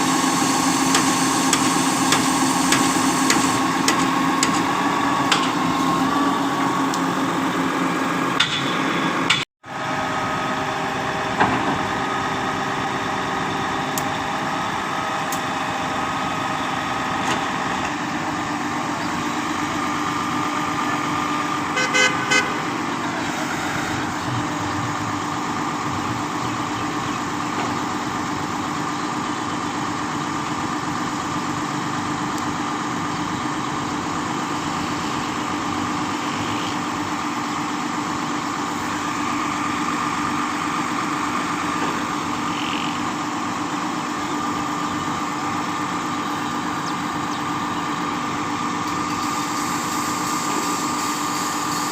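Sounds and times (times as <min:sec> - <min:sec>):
concrete pump engine running: 0:00.0 - 0:51.9.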